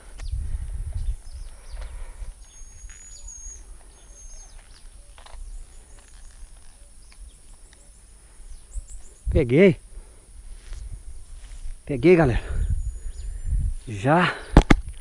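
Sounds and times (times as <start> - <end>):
birds calling: 0.0 - 14.7.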